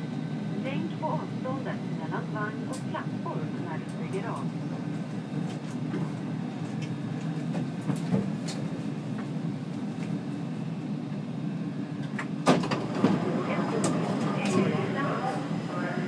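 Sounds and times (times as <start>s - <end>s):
metro train rumbling on track: 0.0s - 16.0s.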